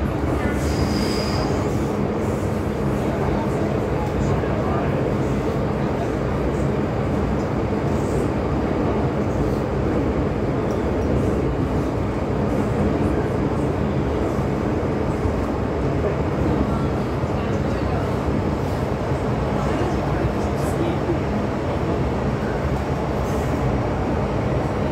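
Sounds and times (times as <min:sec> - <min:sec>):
metro train rumbling in tunnel: 0:00.0 - 0:24.9.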